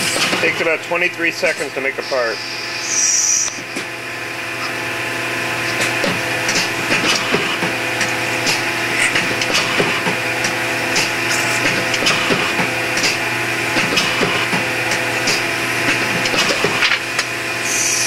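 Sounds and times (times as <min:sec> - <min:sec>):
lathe motor and spindle hum: 0:00.0 - 0:18.0.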